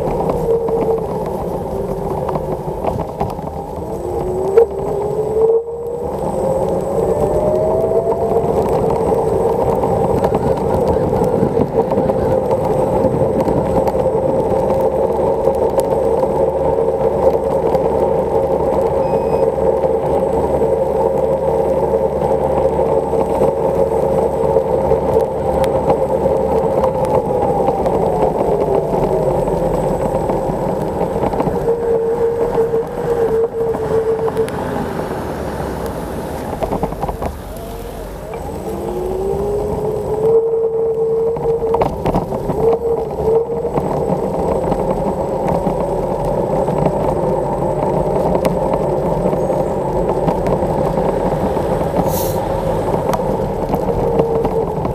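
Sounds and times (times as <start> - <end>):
electric scooter motor whine: 0.0 - 54.9
wind and tyre noise: 0.0 - 54.9.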